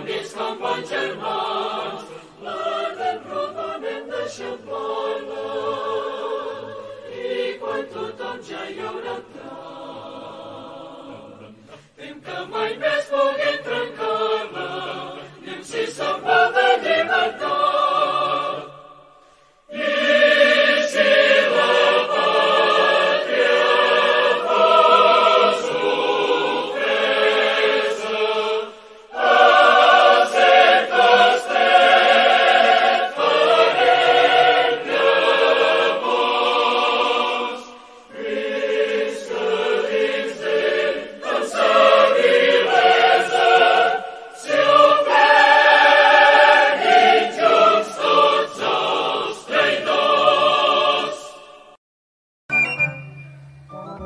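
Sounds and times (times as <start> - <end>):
choir singing: 0.0 - 51.8.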